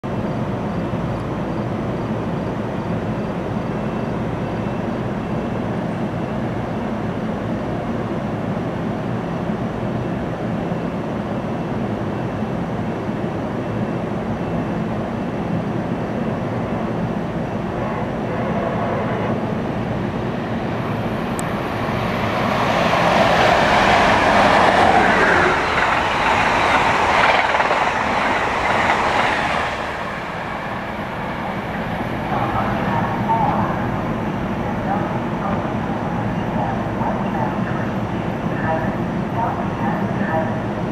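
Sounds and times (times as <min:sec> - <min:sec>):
standing train rumbling: 0:00.1 - 0:40.9
train passing at speed: 0:00.1 - 0:40.9.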